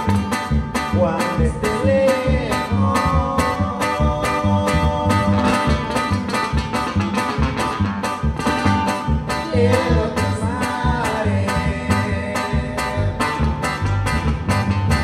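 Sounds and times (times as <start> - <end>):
live band playing dance music: 0.0 - 15.0
steady bass beat: 0.0 - 15.0
strummed and plucked guitars: 0.0 - 15.0.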